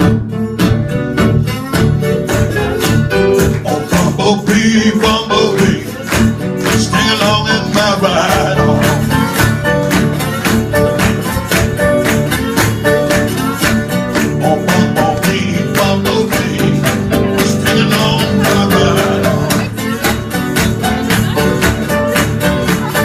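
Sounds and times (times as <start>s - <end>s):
guitar: 0.0s - 23.0s
steady drum beat: 0.0s - 23.0s.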